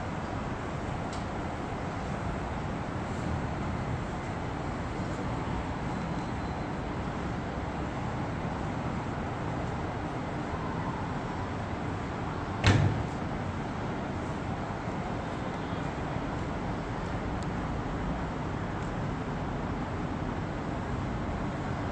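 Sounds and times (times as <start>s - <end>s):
city traffic hum: 0.0s - 21.9s.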